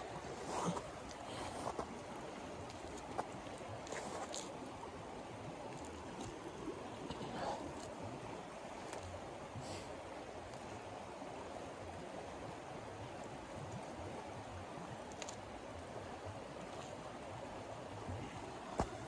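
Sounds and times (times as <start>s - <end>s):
stream flowing over stones: 0.0s - 19.0s.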